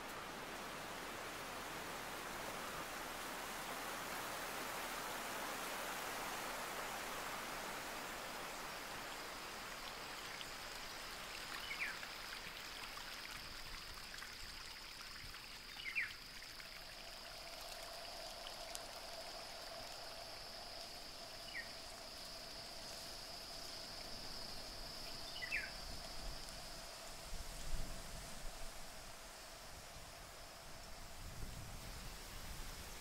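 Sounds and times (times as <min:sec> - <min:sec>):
stream running over rocks: 0:00.0 - 0:33.0
high insect drone: 0:00.2 - 0:33.0.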